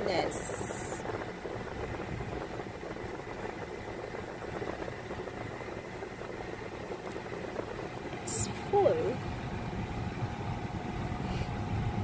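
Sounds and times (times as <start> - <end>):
car engine and road noise: 1.0 - 12.0.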